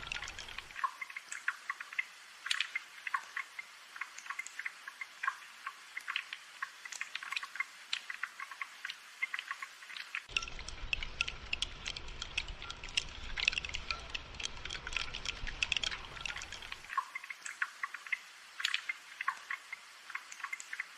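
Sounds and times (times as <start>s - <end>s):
water drops plinking: 0.0s - 6.3s, 8.4s - 20.9s.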